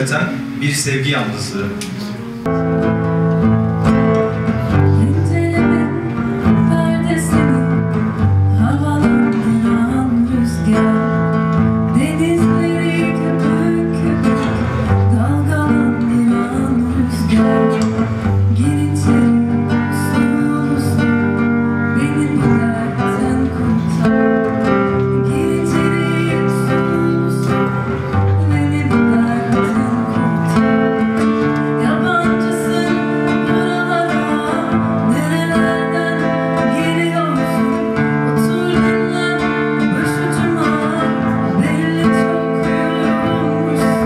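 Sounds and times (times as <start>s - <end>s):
acoustic guitar: 0.0s - 44.0s
person singing: 4.7s - 44.0s.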